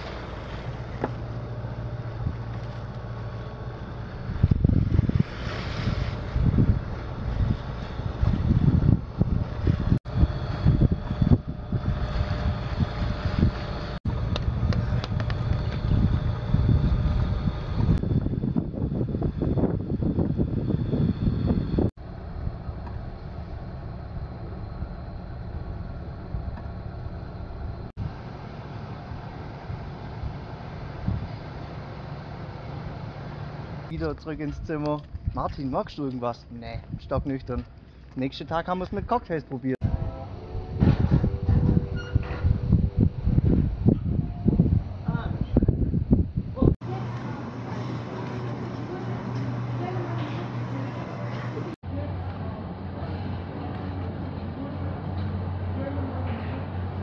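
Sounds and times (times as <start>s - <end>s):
wind buffeting microphone: 0.0s - 28.4s, 29.0s - 31.7s, 33.9s - 37.9s, 38.6s - 51.8s
boat engine running: 0.0s - 33.9s, 39.8s - 45.2s, 46.2s - 57.0s.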